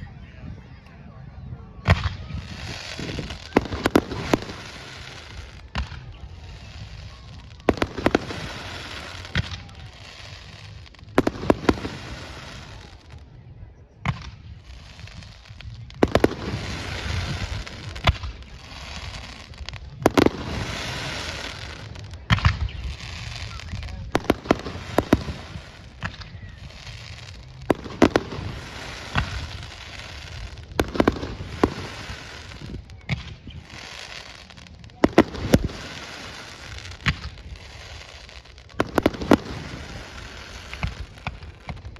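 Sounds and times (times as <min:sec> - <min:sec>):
continuous hissing: 0:00.0 - 0:41.9.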